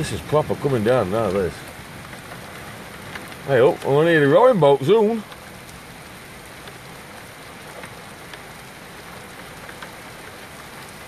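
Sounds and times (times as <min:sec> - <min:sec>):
heavy rain pouring: 0:00.0 - 0:11.0
raindrops ticking close by: 0:00.0 - 0:11.0.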